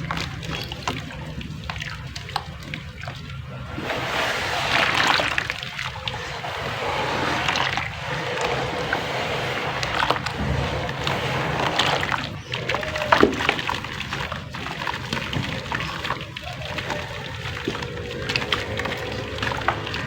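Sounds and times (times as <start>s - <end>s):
mud crackling: 0.0s - 20.0s
water pouring onto mud: 0.0s - 20.0s.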